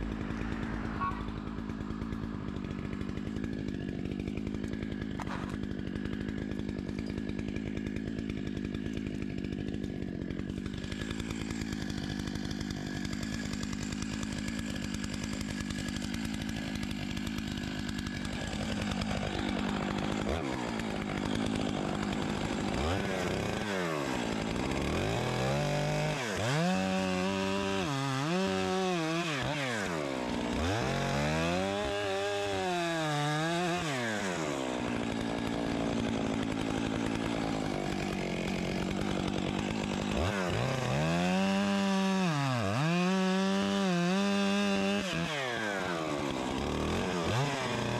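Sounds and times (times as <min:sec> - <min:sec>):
chainsaw engine revving: 0:00.0 - 0:47.9.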